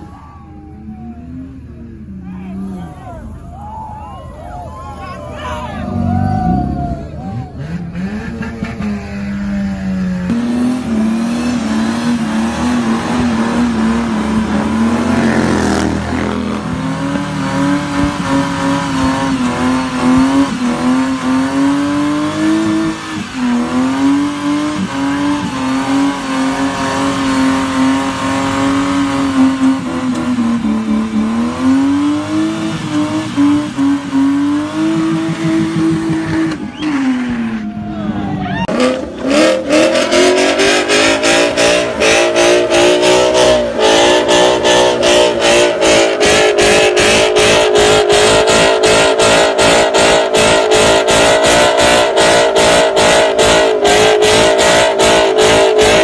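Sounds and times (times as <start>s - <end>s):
car engine revving high: 5.8s - 37.8s, 38.6s - 56.0s.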